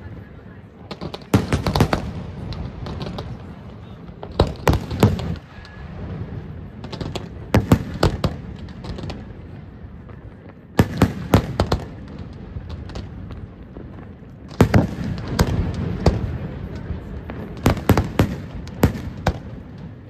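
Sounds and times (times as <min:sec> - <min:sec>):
firework bangs: 0:00.0 - 0:20.0.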